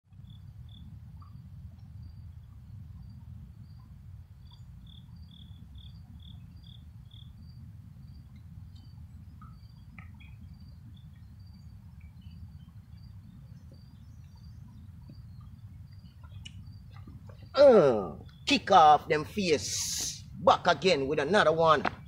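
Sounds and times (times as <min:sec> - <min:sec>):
crickets chirping: 0:00.1 - 0:22.0
steady low rumble: 0:00.1 - 0:22.0.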